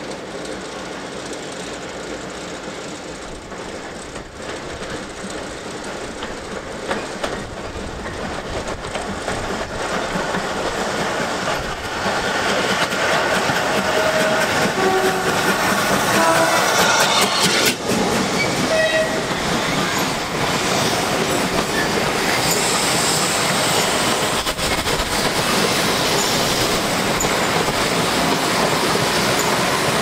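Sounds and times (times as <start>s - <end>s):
train wheels clicking on rails: 0.0s - 30.0s.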